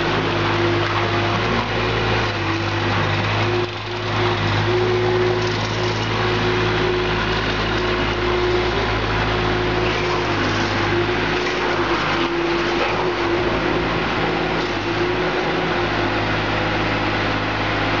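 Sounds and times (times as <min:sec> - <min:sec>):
skid steer loader engine: 0:00.0 - 0:18.0.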